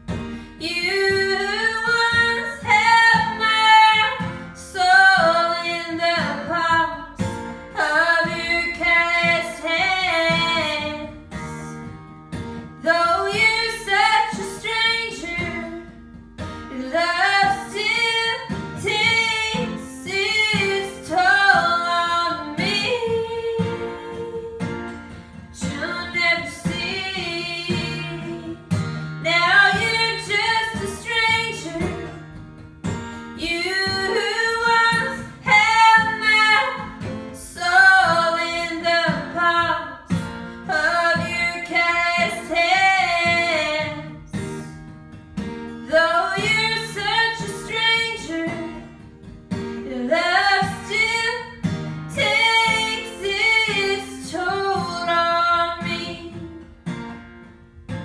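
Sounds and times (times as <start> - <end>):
strummed acoustic guitar: 0.0 - 58.0
woman singing: 0.1 - 11.9, 12.7 - 44.9, 45.7 - 56.8.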